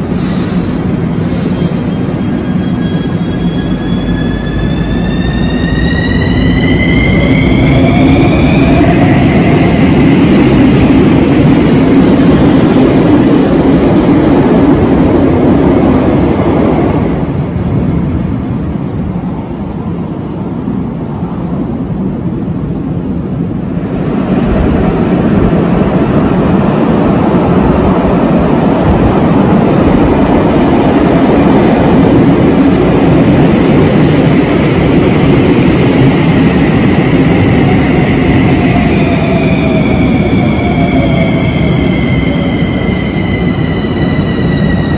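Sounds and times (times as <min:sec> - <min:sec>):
metro train rail noise: 0:00.0 - 0:44.9
train running along platform: 0:00.0 - 0:44.9.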